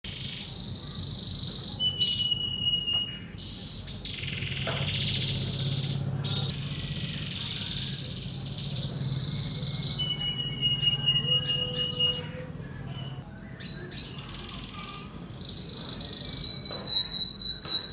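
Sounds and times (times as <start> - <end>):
canary singing: 0.1 - 17.9.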